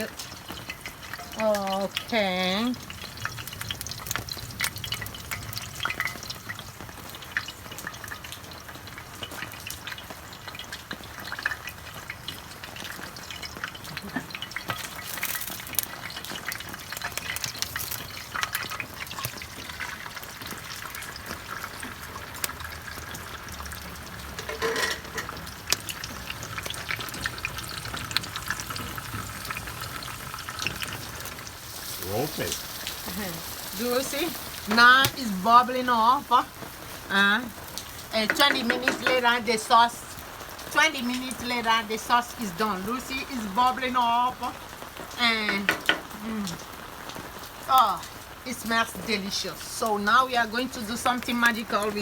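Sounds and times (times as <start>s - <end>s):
oil sizzling and popping in pan: 0.0s - 52.0s.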